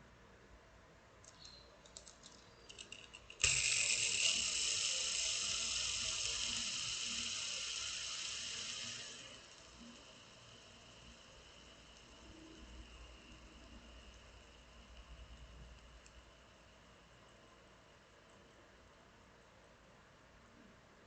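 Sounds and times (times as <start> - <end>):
fidget spinner whirring: 1.3 - 19.1.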